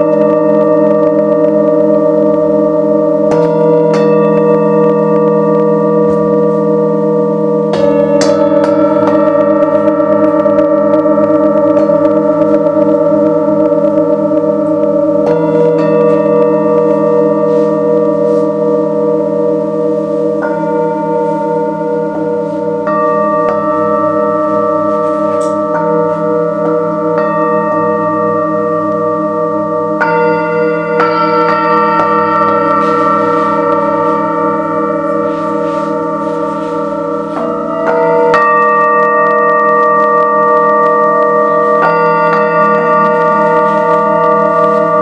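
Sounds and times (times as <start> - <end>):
singing bowl being struck: 0.0 - 45.0
singing bowls ringing: 0.0 - 45.0.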